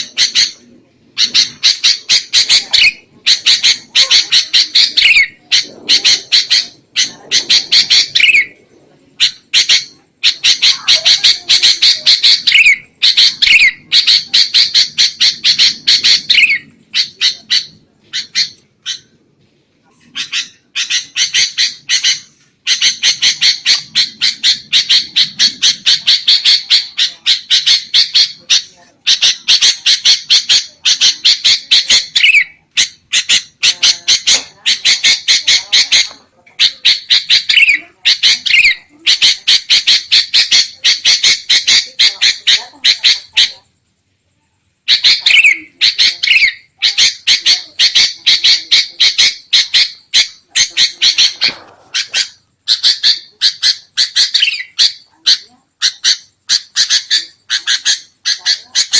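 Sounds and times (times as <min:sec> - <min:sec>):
bulbuls chattering: 0:00.0 - 0:58.9.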